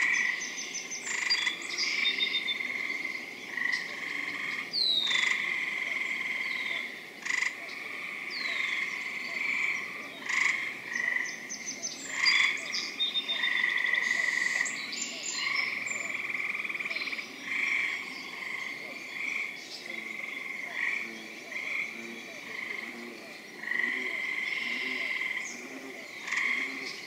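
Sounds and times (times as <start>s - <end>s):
birds singing: 0.0s - 27.0s
treefrogs trilling: 0.0s - 27.0s.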